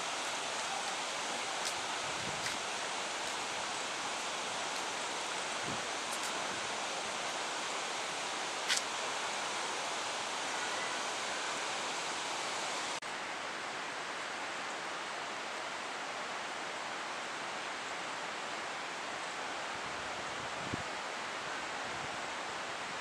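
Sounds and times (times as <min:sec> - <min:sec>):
steady rushing hiss: 0:00.0 - 0:23.0.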